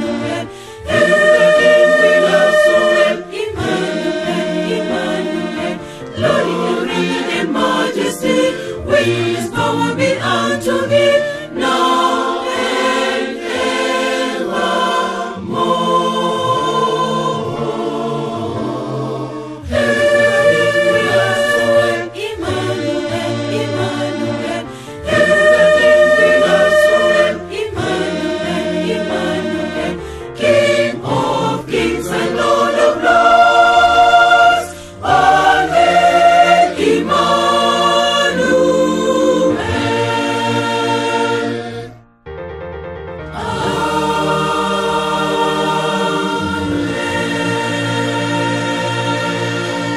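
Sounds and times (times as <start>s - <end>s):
mixed choir singing a hymn: 0.0s - 42.0s, 43.3s - 49.9s.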